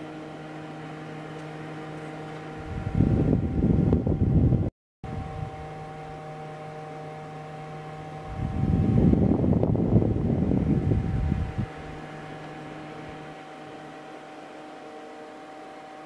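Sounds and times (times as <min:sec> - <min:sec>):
air cooler fan whirring hum: 0:00.0 - 0:16.0.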